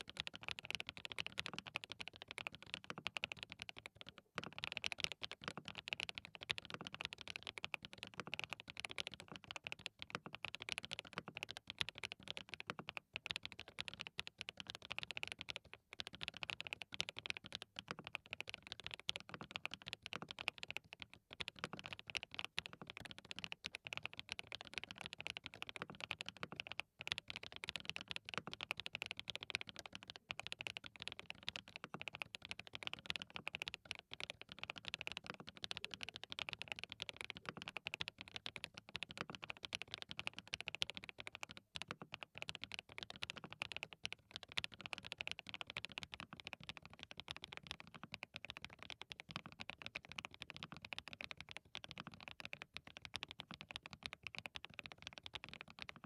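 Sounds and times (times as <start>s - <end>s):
mechanical keyboard typing: 0.0s - 56.0s.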